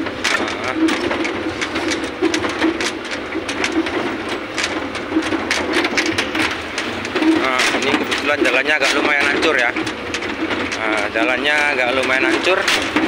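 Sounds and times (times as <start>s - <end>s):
vehicle engine under load: 0.0s - 13.0s
vehicle rattling and knocking: 0.0s - 13.0s.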